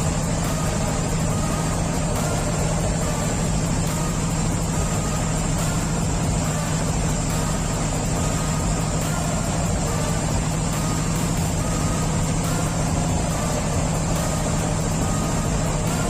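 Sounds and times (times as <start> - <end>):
boat diesel engines running: 0.0 - 16.0.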